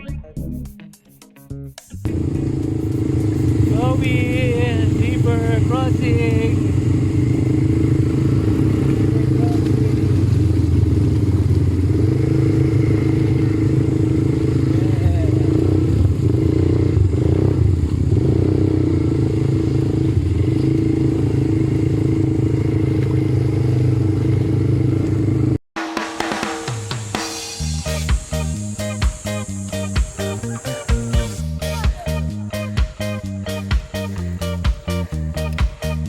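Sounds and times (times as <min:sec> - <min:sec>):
atv engine running: 0:02.0 - 0:25.6, 0:27.6 - 0:36.0.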